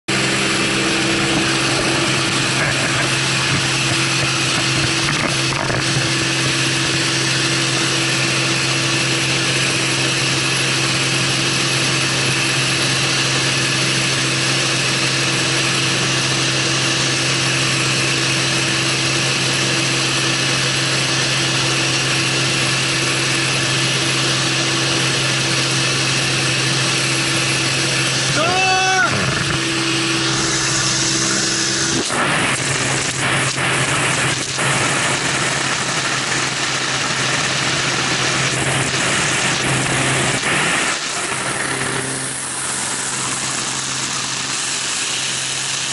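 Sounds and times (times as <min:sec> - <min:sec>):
light aircraft engine drone: 0:00.1 - 0:45.9.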